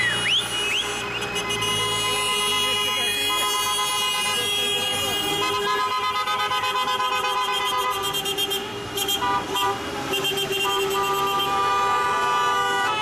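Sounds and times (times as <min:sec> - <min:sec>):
fast repeated horn toots: 0:00.0 - 0:13.0.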